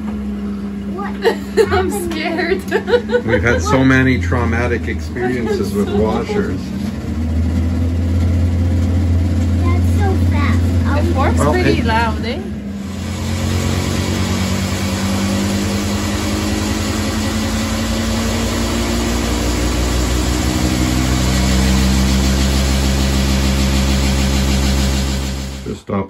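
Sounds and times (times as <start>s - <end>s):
washing machine spinning: 0.0s - 25.8s
washing machine shaking violently: 1.2s - 9.9s, 10.7s - 25.7s.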